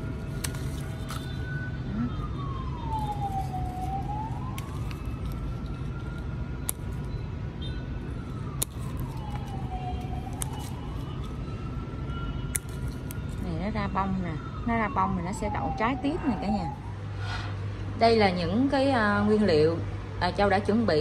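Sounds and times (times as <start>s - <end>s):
siren wailing: 0.0s - 17.2s.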